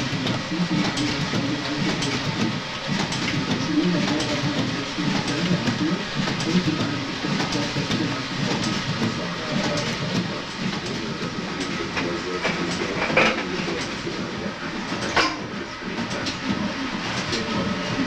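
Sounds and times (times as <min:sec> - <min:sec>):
steam engine clattering: 0:00.0 - 0:18.0.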